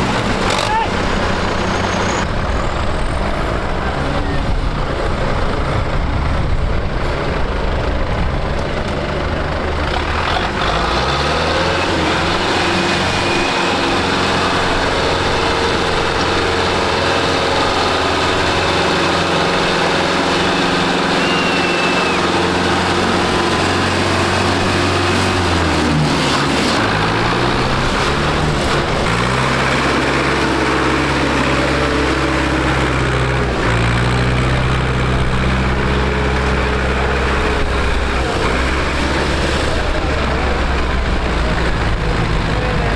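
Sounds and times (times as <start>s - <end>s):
diesel tractor engine under load: 0.0s - 42.9s.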